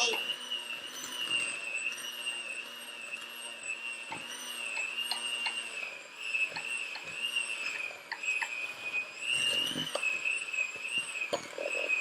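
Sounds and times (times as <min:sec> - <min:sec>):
electric hand mixer whirring: 0:00.0 - 0:12.0.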